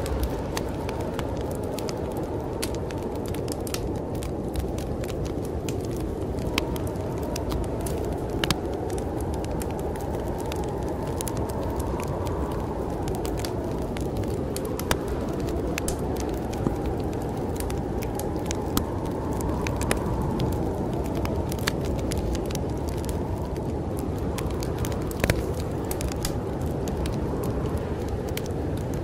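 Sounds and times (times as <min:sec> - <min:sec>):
snowstorm wind: 0:00.0 - 0:29.0
wood fire crackling: 0:00.0 - 0:29.0.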